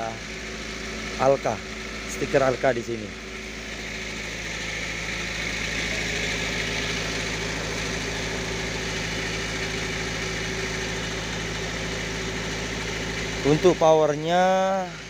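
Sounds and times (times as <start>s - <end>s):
generator engine humming: 0.0s - 15.0s.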